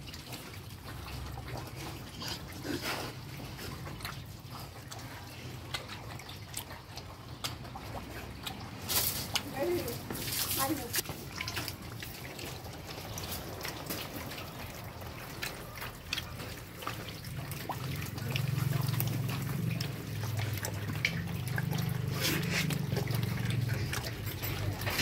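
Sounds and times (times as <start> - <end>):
pigs chewing and slurping: 0.0 - 25.0
pigs grunting: 0.5 - 10.1, 12.0 - 25.0.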